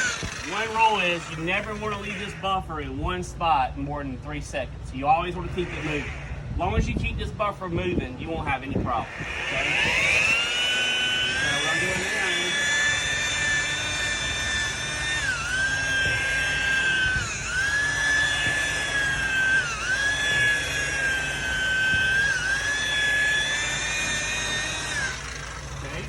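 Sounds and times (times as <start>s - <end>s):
electric buffer whining: 0.0s - 26.0s.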